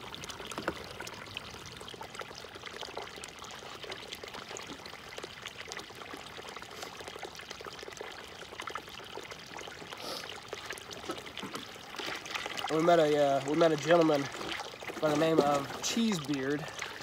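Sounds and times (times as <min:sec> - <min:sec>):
water pouring into a jug: 0:00.0 - 0:17.0.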